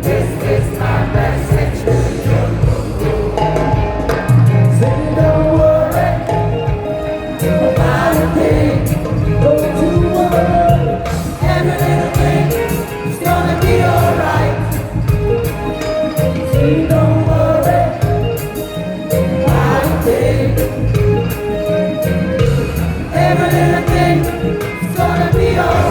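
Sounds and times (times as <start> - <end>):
person singing: 0.0 - 25.9
pulsing bass line: 0.0 - 25.9
reggae band playing: 0.0 - 25.9.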